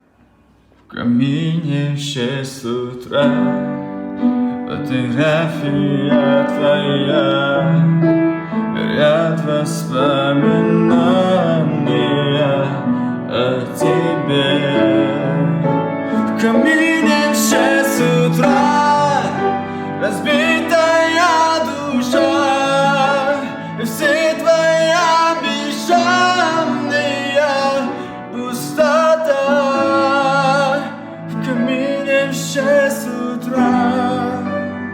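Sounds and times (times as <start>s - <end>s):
person singing: 0.9s - 34.9s
piano and backing music: 1.1s - 34.9s.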